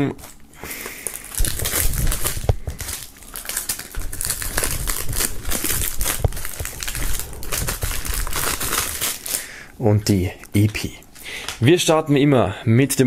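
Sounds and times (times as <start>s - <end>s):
plastic film crinkling: 0.0s - 11.7s.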